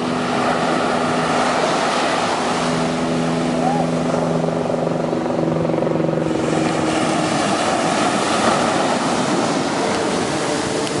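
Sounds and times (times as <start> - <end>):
engine low hum: 0.0 - 11.0
ocean waves washing ashore: 0.0 - 11.0.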